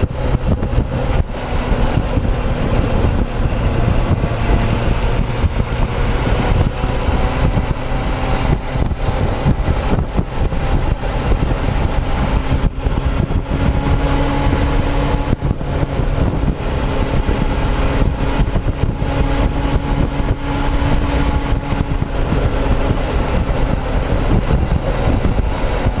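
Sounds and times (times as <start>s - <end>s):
motorcycle engine running: 0.0s - 26.0s
wind noise on microphone: 0.0s - 26.0s.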